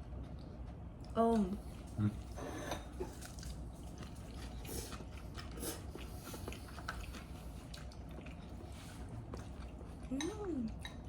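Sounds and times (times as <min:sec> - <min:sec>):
chewing with wet mouth clicks: 0:00.0 - 0:02.3, 0:02.9 - 0:11.0.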